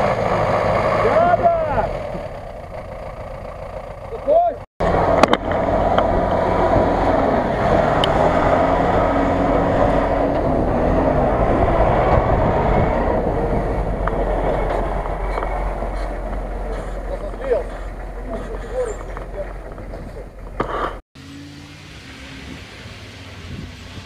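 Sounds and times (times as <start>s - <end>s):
truck driving past: 0.0s - 24.0s.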